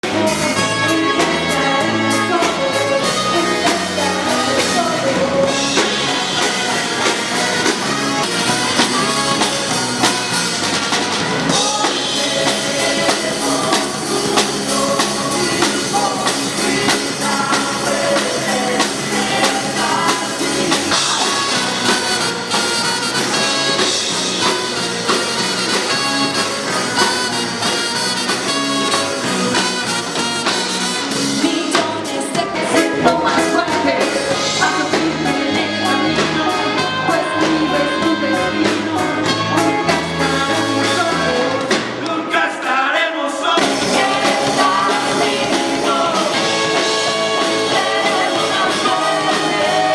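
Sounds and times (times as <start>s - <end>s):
funk band with brass: 0.0s - 49.9s.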